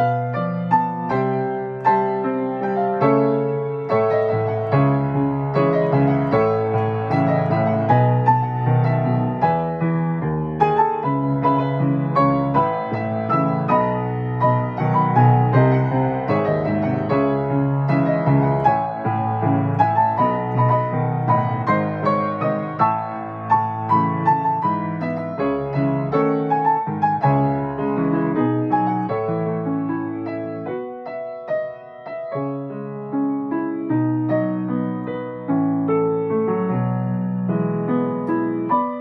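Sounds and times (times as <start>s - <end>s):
grand piano solo: 0.0s - 39.0s.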